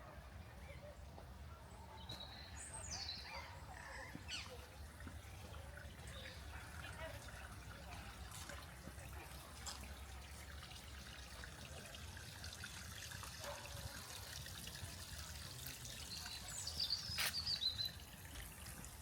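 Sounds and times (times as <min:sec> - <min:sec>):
garden waterfall trickling: 0:02.2 - 0:19.0.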